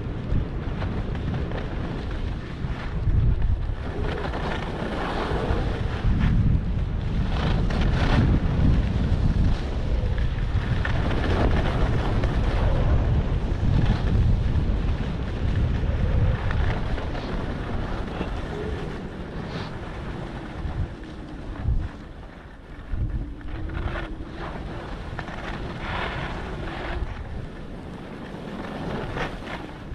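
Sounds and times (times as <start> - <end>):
skis scraping on snow: 0.0 - 29.9
wind rushing over microphone: 0.0 - 29.9.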